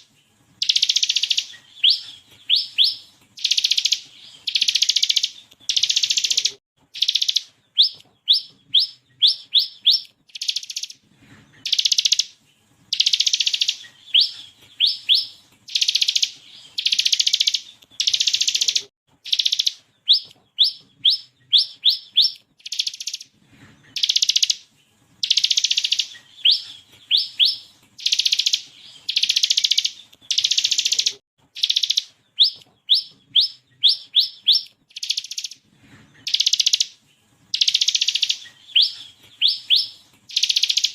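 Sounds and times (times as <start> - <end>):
bird singing buzzy rattles: 0.0 - 40.9.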